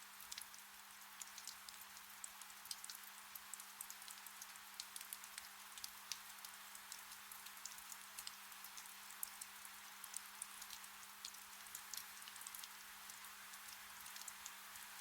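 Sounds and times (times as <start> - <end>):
gentle rain: 0.0 - 15.0.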